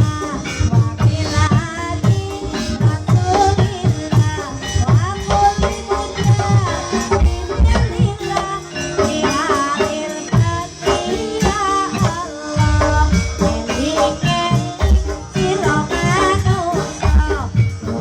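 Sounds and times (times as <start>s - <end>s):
drum strokes: 0.0s - 18.0s
metallophone tones: 0.0s - 18.0s
rattling percussion: 0.0s - 18.0s
wavering melody line: 0.0s - 18.0s.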